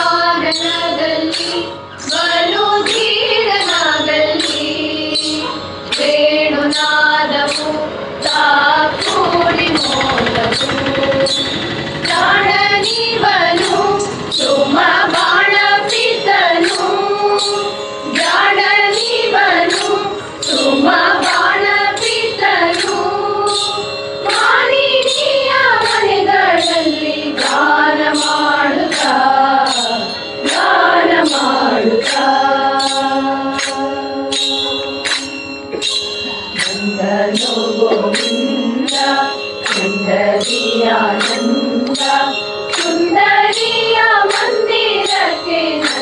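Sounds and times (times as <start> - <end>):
women singing in unison: 0.0 - 35.3, 36.6 - 46.0
high jingling beat: 0.0 - 46.0.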